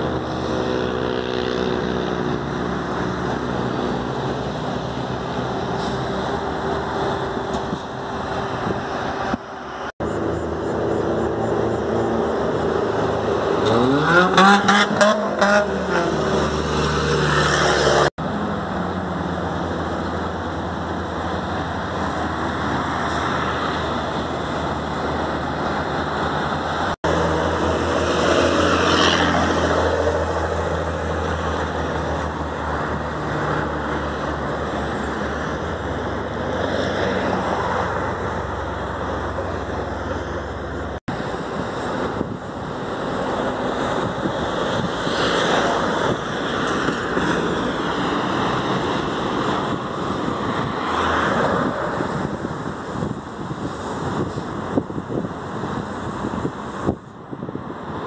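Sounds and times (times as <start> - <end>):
trucks and cars passing: 0.0 - 58.0.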